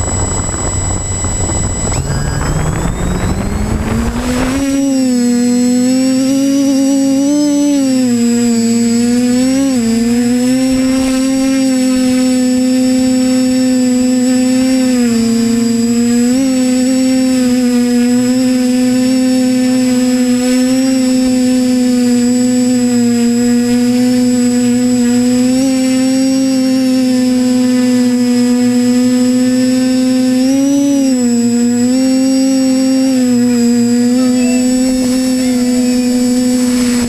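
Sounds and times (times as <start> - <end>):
drone propellers buzzing hum: 0.0 - 37.0.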